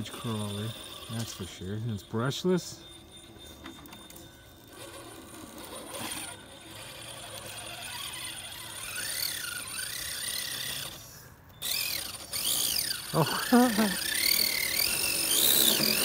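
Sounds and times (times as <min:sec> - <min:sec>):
electric motor whining: 0:00.0 - 0:02.3, 0:02.9 - 0:16.0.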